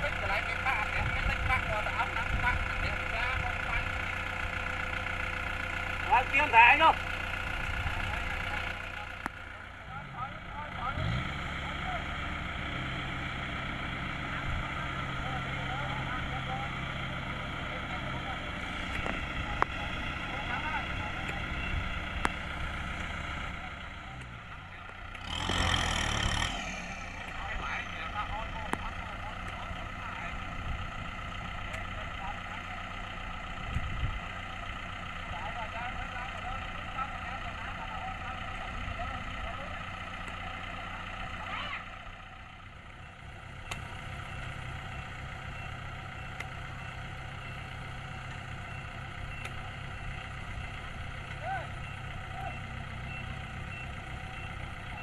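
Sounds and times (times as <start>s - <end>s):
diesel farm machinery engine: 0.0s - 55.0s.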